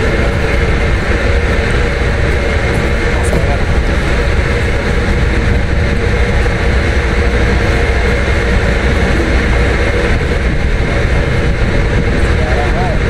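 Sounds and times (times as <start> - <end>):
engine running with low drone: 0.0 - 13.0
steady hum: 0.0 - 13.0.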